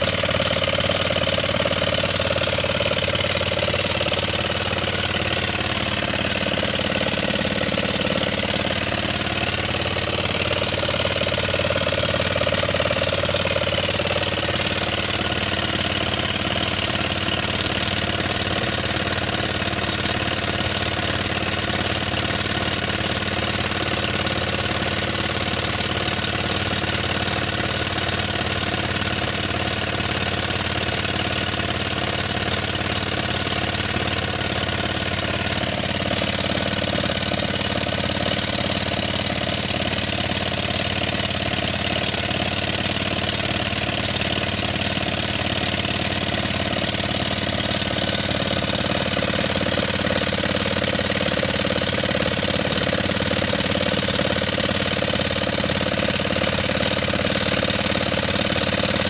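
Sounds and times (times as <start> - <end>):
pneumatic rock drill hammering: 0.0 - 59.0.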